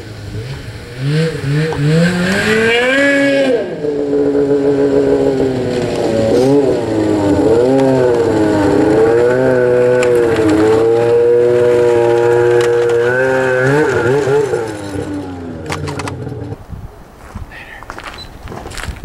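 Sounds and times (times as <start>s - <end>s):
atv engine revving: 0.0s - 16.6s.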